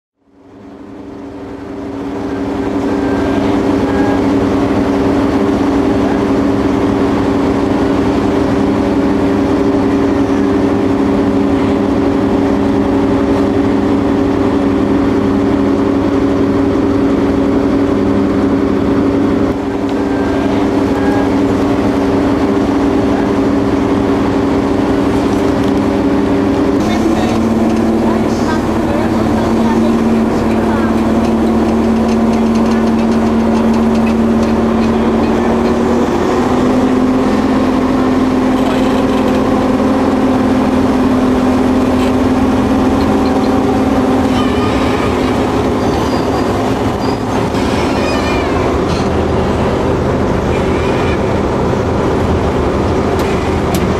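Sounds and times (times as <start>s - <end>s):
locomotive engine idling: 0.2s - 53.9s.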